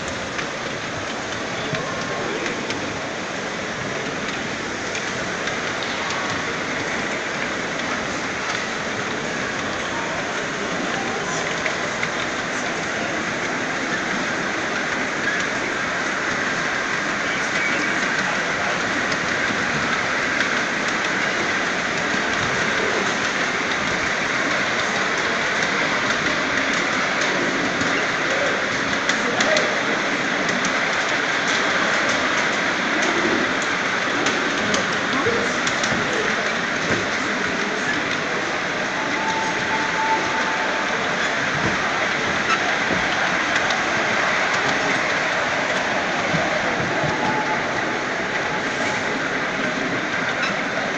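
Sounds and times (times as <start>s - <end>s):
clicks over rail joints: 0.0s - 50.9s
train wheels rolling on track: 0.0s - 50.9s.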